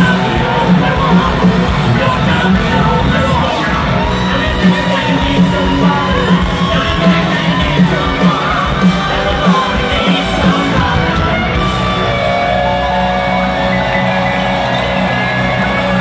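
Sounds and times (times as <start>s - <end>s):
electric guitar lead: 0.0s - 16.0s
live rock band: 0.0s - 16.0s.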